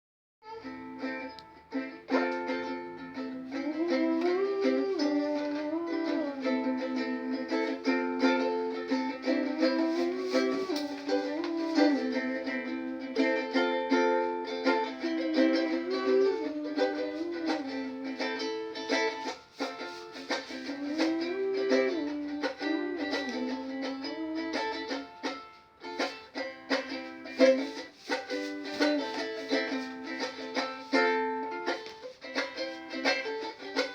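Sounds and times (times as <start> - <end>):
ukulele strumming: 0.4 - 33.9.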